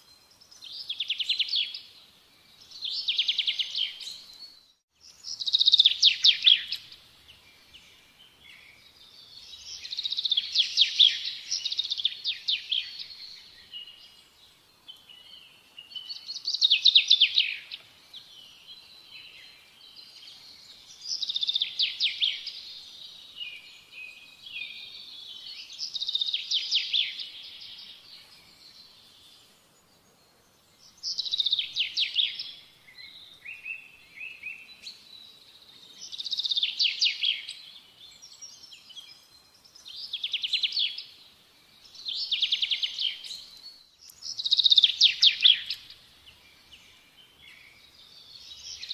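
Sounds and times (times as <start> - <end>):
songbird chirps and trills: 0.0 - 48.9.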